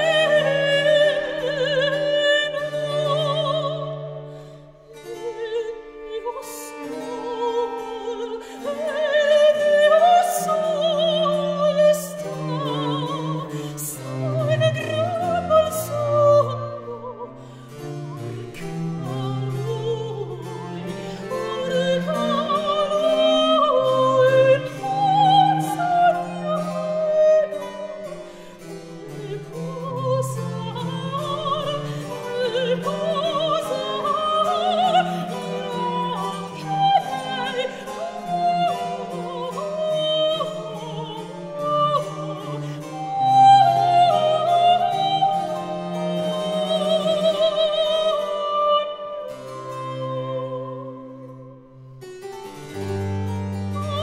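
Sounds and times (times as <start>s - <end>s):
person singing with vibrato: 0.0s - 51.5s.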